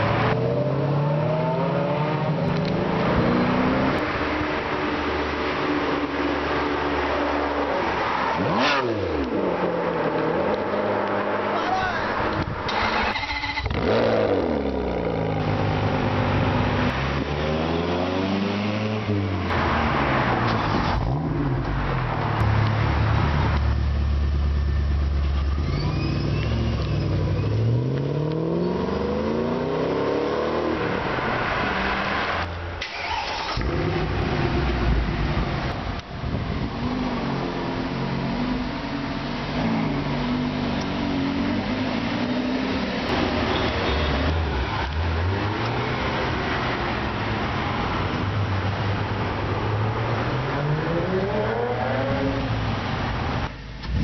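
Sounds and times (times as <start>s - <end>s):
sports car engines revving: 0.0s - 54.0s.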